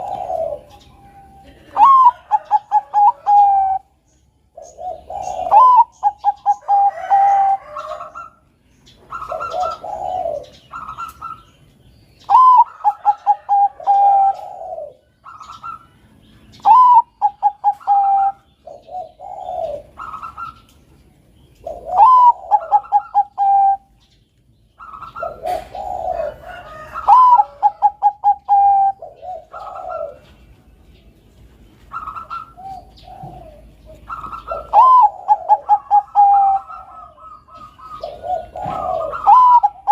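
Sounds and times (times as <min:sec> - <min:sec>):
lower dove coos: 0:00.0 - 0:11.5, 0:12.2 - 0:15.9, 0:16.5 - 0:20.8, 0:21.6 - 0:24.0, 0:24.8 - 0:30.4, 0:31.9 - 0:39.9
dove cooing: 0:00.0 - 0:20.8, 0:21.5 - 0:24.1, 0:24.7 - 0:30.6, 0:31.8 - 0:39.9.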